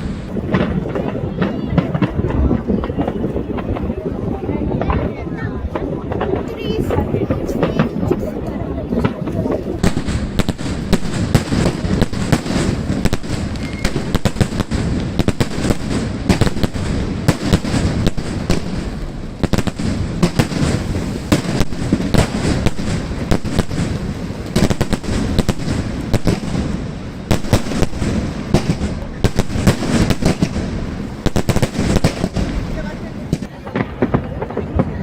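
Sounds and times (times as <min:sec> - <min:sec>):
continuous rumble: 0:00.0 - 0:35.0
fireworks cracking and banging: 0:00.0 - 0:35.0.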